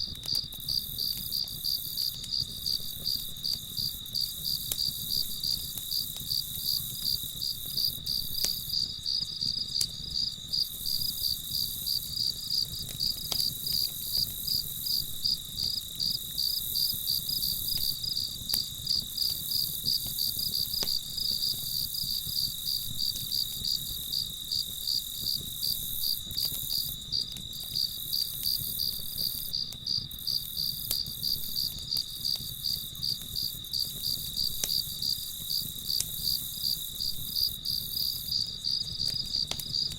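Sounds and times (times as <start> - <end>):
crickets chirping: 0.0 - 39.9
high insect trill: 0.0 - 39.9.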